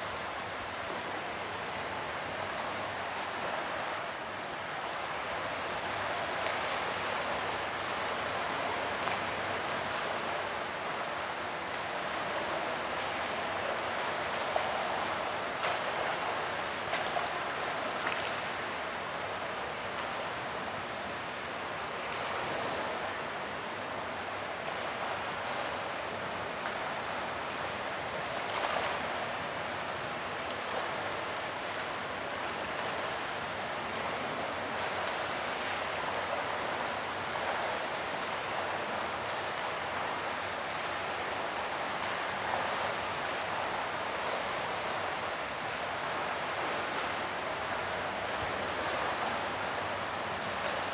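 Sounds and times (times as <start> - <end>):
fountain water splashing: 0.0 - 50.9.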